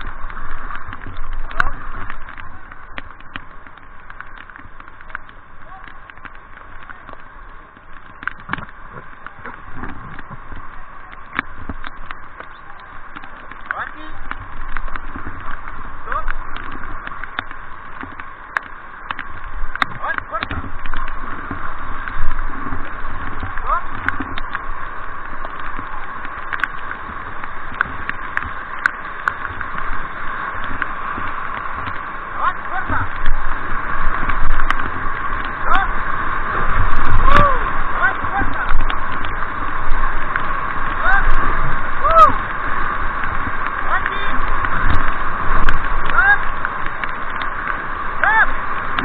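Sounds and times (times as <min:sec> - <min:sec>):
water splashing against boat: 0:00.0 - 0:49.0
whitewater river rushing: 0:00.0 - 0:49.0.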